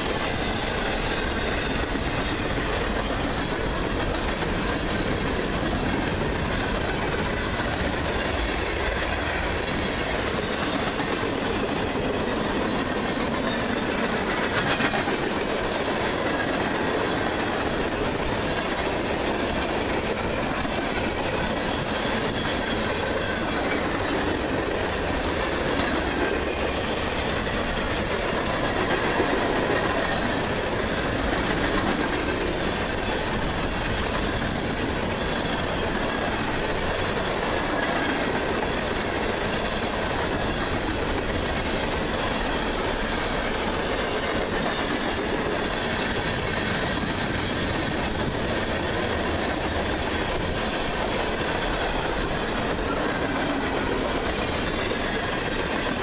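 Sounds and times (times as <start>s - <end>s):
freight train wheels rumbling on rail: 0.0s - 56.0s.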